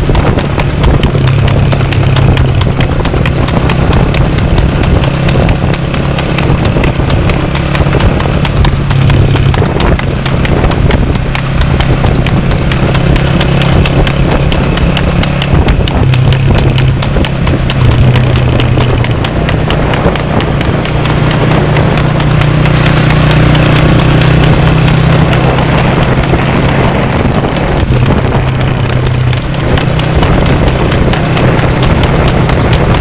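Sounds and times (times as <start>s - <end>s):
hooves clip-clopping on pavement: 0.0s - 33.0s.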